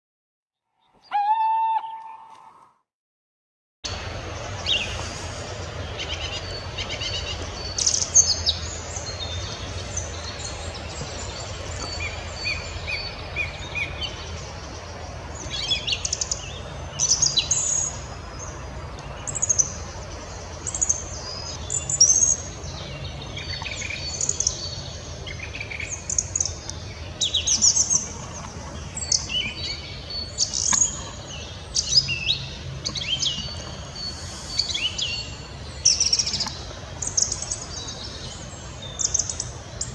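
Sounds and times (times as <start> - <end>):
song thrush singing: 3.9 - 39.9.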